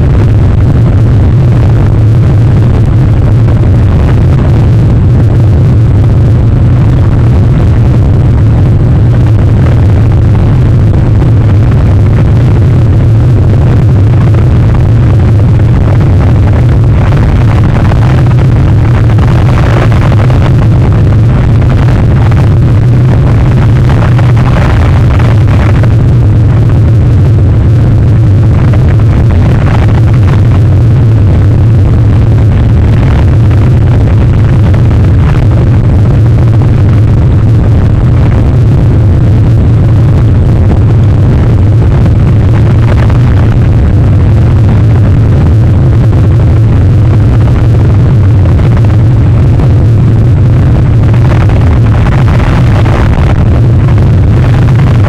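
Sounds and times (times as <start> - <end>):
storm wind on microphone: 0.0 - 55.0.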